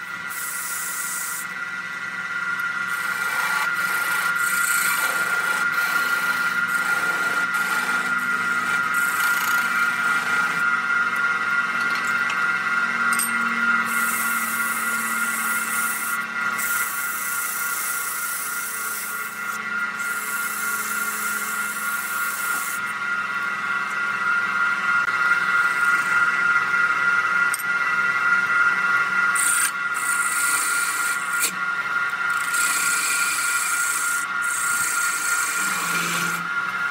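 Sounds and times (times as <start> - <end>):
tool scraping spinning wood: 0.0 - 36.9
wood lathe whining: 0.0 - 36.9.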